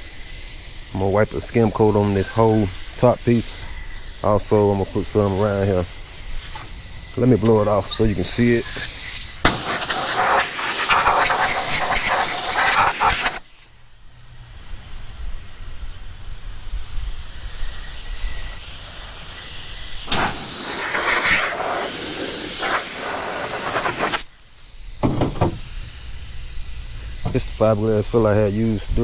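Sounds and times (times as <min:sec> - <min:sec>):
compressed air blow gun hissing: 0:00.0 - 0:13.8, 0:14.5 - 0:29.0.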